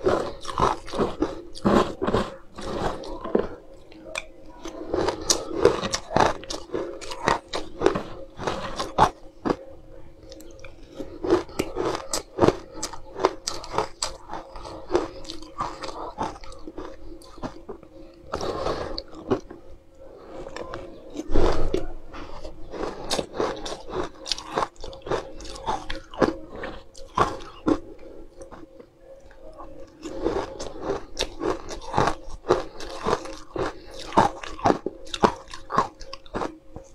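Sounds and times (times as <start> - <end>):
crunching ice: 0.0 - 9.6, 10.3 - 19.6, 22.7 - 36.9
faint steady hum: 0.0 - 36.9.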